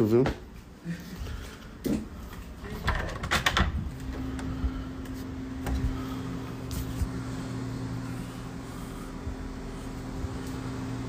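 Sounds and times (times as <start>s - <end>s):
machine humming: 0.7s - 11.0s.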